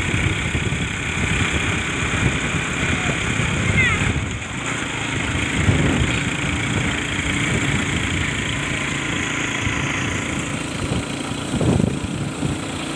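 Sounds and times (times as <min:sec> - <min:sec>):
wind rumbling on microphone: 0:00.0 - 0:04.6, 0:05.3 - 0:12.9
small motorbike engine running: 0:00.0 - 0:12.9.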